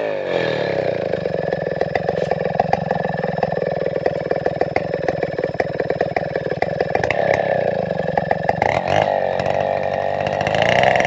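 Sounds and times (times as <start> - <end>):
chainsaw idling and revving: 0.0 - 11.0.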